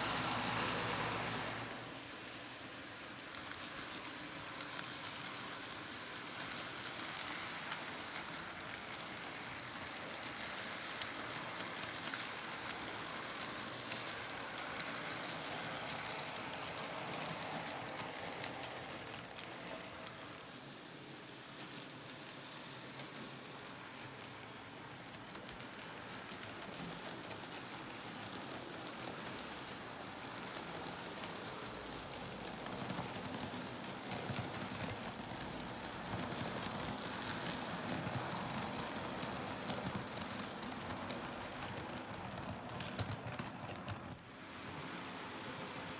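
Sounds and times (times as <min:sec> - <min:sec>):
model train motor whirring: 0:00.0 - 0:23.3, 0:25.3 - 0:45.9
model train clicks: 0:02.9 - 0:44.3.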